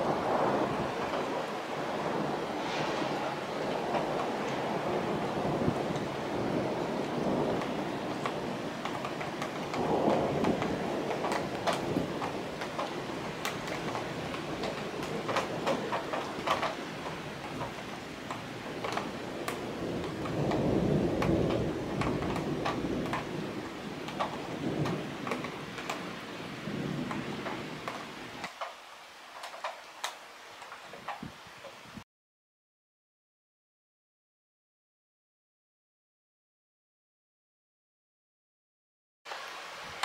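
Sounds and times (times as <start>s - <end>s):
torrential rain downpour: 0.0s - 32.0s, 39.3s - 40.0s.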